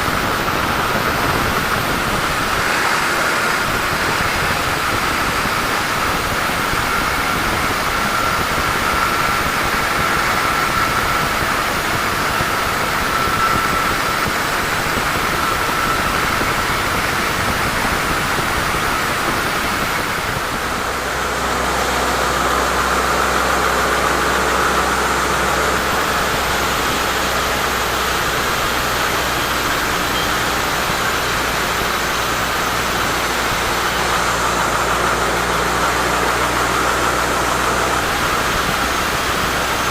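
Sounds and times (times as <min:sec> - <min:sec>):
high whine: 0:00.0 - 0:39.9
low engine hum: 0:00.0 - 0:39.9
sawmill machinery running: 0:00.0 - 0:39.9.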